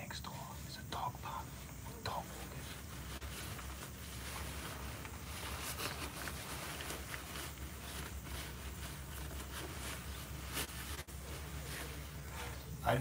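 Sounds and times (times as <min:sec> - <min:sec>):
low steady hum: 0:00.0 - 0:13.0
jacket rustling: 0:01.3 - 0:13.0.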